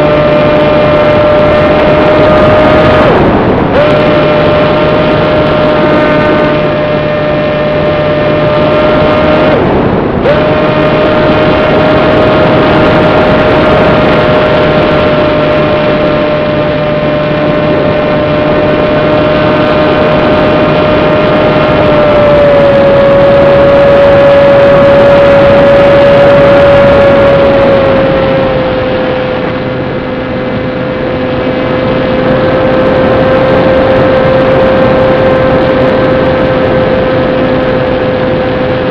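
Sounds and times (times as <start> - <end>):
airflow rushing over microphone: 0.0 - 38.9
electric motor and propeller whining: 0.0 - 38.9.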